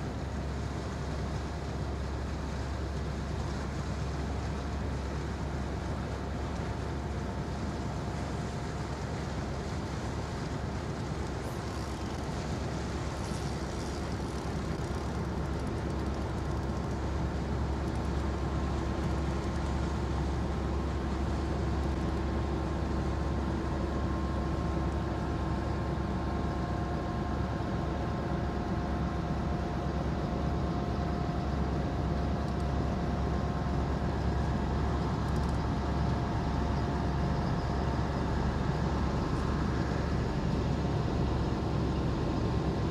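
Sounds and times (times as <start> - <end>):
boat diesel engine droning: 0.0 - 42.9.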